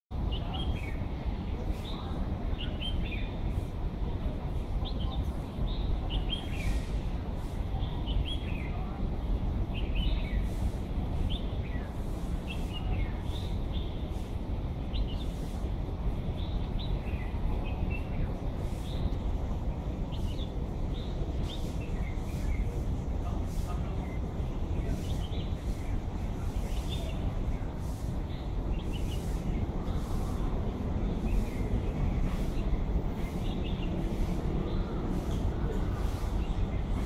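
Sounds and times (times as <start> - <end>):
small birds chirping: 0.2 - 37.0.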